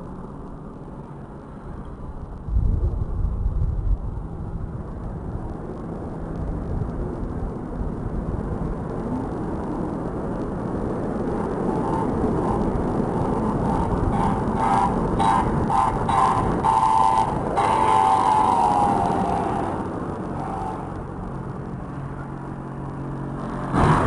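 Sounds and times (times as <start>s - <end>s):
wind buffeting microphone: 0.2s - 24.0s.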